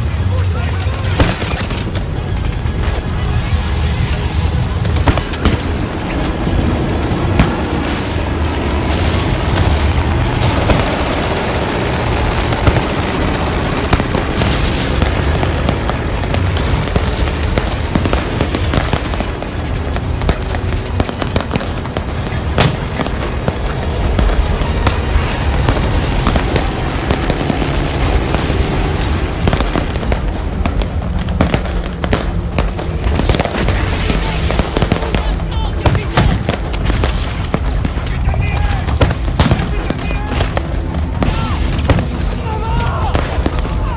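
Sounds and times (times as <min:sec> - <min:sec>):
fireworks crackling: 0:01.8 - 0:43.9
fireworks booms: 0:04.7 - 0:10.9, 0:13.8 - 0:43.9.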